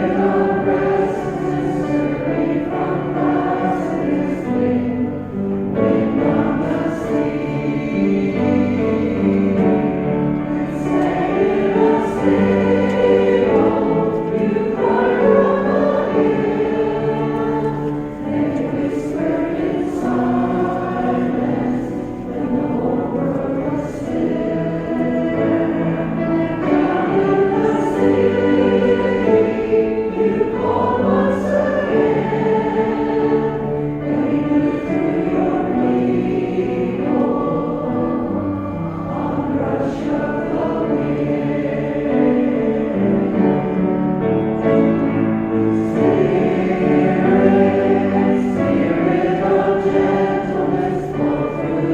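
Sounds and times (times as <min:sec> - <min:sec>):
choir singing a hymn: 0:00.0 - 0:51.9.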